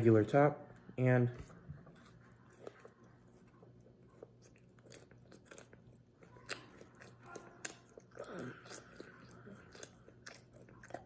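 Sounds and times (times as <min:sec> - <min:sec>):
person chewing nut bar: 0:02.0 - 0:11.0.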